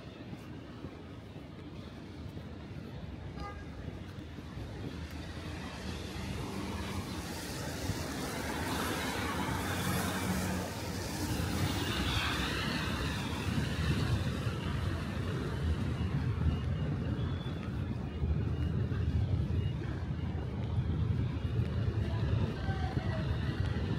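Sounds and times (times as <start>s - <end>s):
road traffic rumble: 0.0s - 23.9s.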